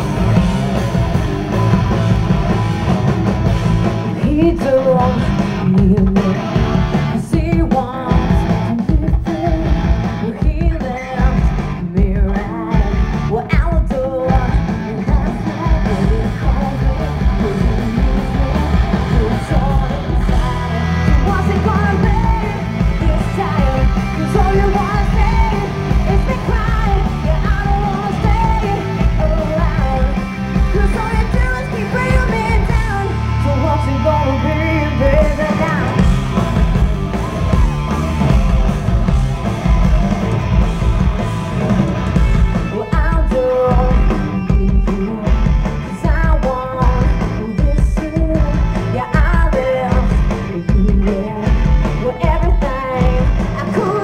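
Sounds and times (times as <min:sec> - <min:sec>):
live rock band playing: 0:00.0 - 0:54.0
person singing lead vocal: 0:03.9 - 0:36.2, 0:42.5 - 0:54.0.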